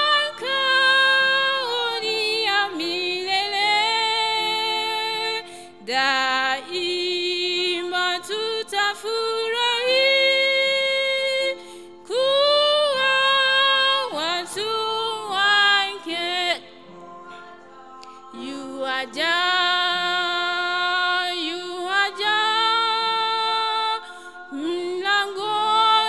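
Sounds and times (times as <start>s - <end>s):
woman singing a hymn: 0.0s - 26.0s.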